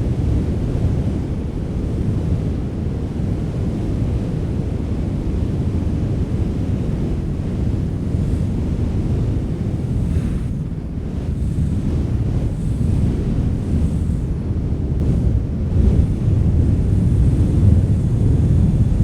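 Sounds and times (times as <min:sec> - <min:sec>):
wind blowing: 0:00.0 - 0:19.0.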